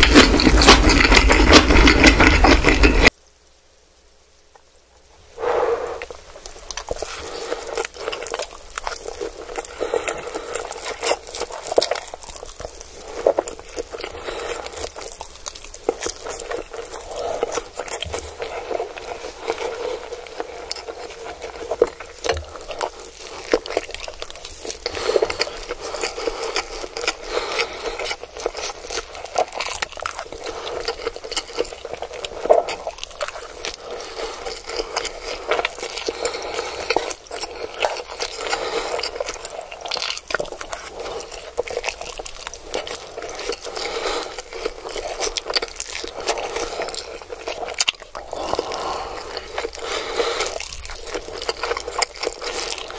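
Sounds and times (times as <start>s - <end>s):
wet chewing and slurping: 0.0s - 3.1s, 5.4s - 52.9s.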